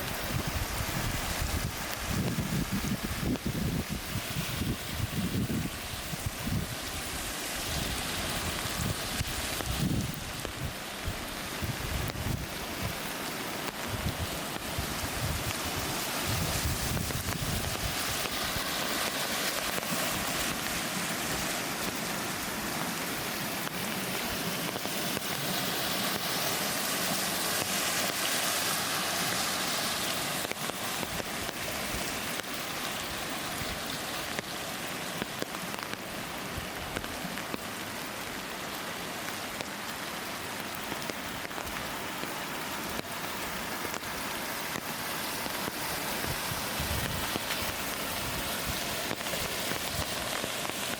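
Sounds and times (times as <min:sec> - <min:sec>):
falling water splashing: 0:00.0 - 0:50.9.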